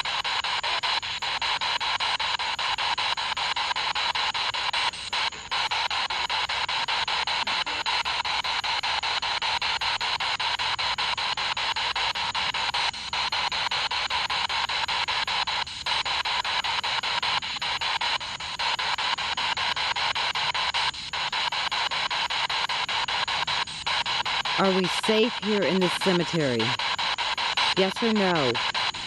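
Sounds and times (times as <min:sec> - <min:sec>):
choppy radio static: 0:00.0 - 0:29.0
rapid even clicking: 0:00.0 - 0:29.0.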